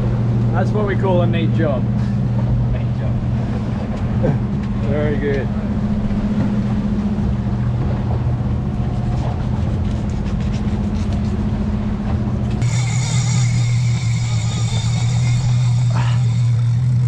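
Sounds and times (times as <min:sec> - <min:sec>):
boat engine running: 0:00.0 - 0:17.0
high whine: 0:00.0 - 0:17.0.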